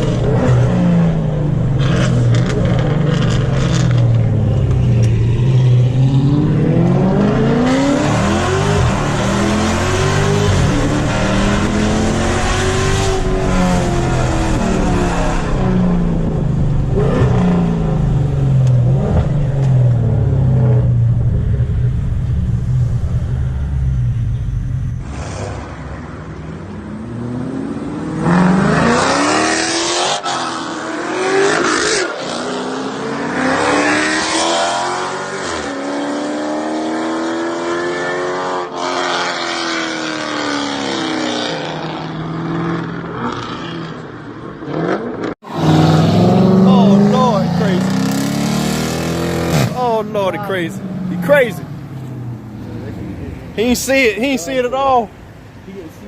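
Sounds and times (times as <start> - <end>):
car engines revving and accelerating: 0.0 - 56.0.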